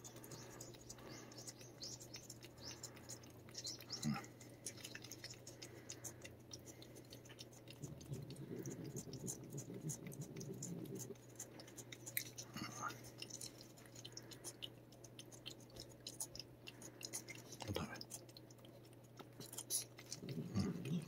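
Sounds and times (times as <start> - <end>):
cat licking: 0.0 - 21.0.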